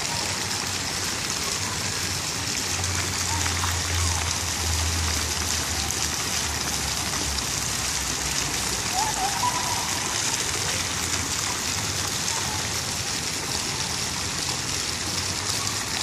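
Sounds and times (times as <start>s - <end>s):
fountain water rushing and splashing: 0.0s - 16.0s.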